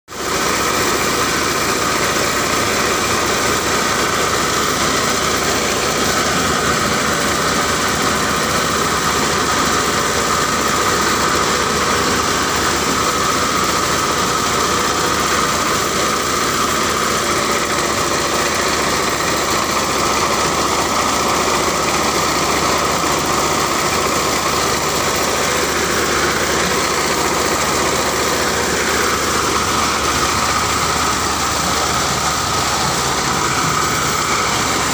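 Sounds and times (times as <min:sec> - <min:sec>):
engine running: 0:00.1 - 0:34.9.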